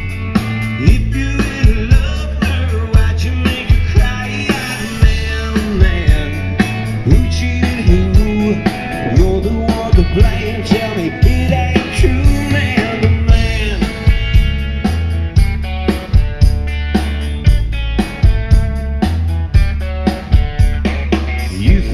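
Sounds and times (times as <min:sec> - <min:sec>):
rock band playing live: 0:00.0 - 0:21.9.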